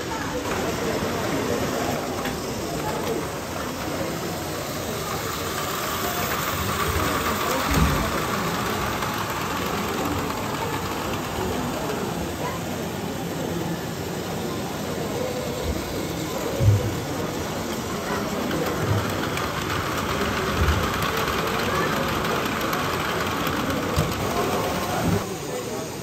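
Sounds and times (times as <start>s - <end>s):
indistinct background chatter: 0.0s - 26.0s.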